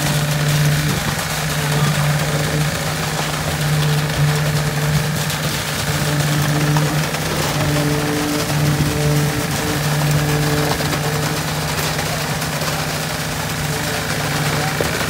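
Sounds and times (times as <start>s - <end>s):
concrete vibrator engine running: 0.0s - 15.0s.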